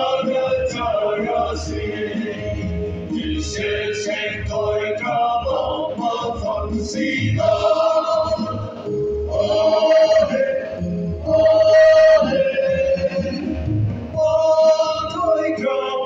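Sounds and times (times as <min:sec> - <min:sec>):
men's choir singing: 0:00.0 - 0:16.0.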